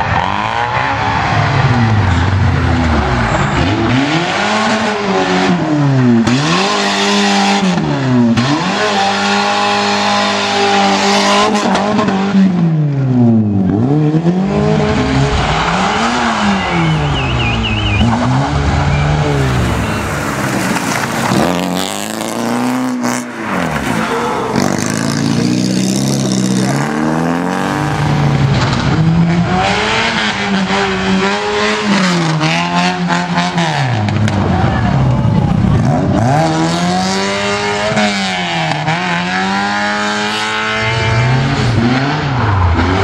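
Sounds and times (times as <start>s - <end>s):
rally car engine revving: 0.0s - 43.0s.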